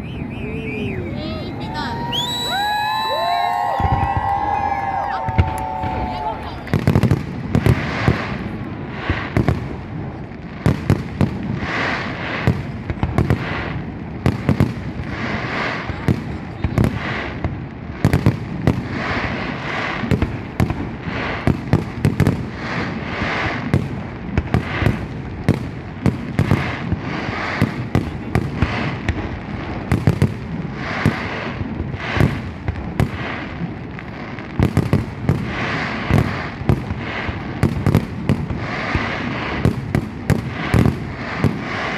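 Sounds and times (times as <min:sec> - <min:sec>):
firework bangs and crackles: 0:00.0 - 0:41.9.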